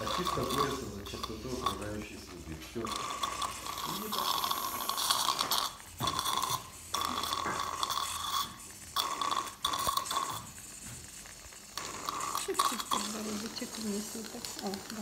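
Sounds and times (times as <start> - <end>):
dental drill whining: 0.0 - 15.0.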